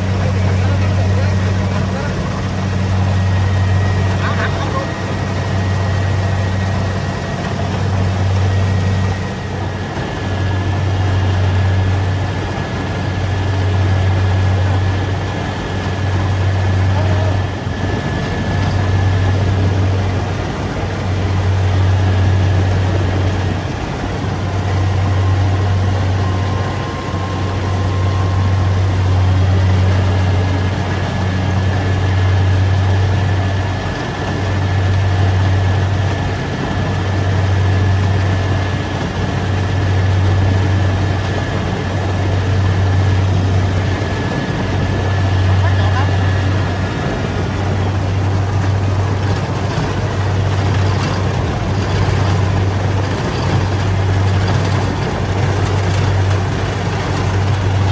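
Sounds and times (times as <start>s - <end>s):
combine harvester engine drone: 0.0s - 57.9s.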